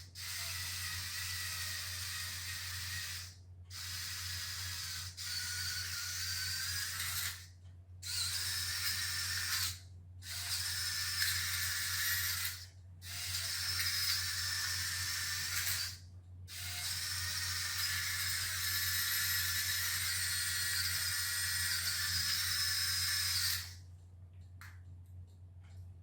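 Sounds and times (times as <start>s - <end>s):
small electric motors whirring: 0.1s - 23.8s.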